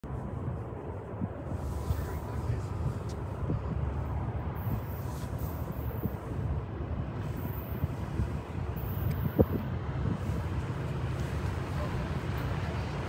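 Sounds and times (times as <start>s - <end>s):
distant freight train: 0.0s - 13.0s
wind rumble on microphone: 0.0s - 13.0s.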